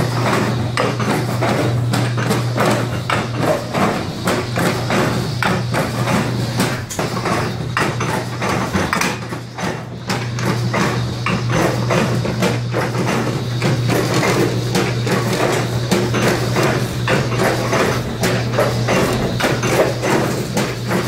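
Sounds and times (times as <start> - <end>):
machine electric hum: 0.0 - 21.0.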